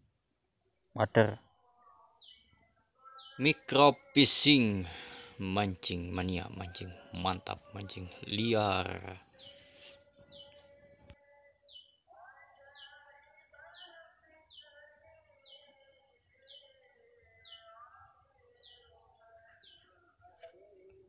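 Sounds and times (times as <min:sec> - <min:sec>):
high-pitched insect drone: 0:02.0 - 0:21.0.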